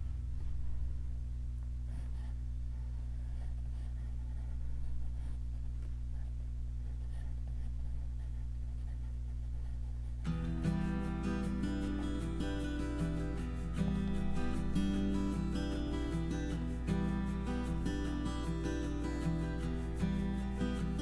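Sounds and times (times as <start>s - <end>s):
steady low hum: 0.0s - 21.0s
pencil scratching on paper: 1.8s - 21.0s.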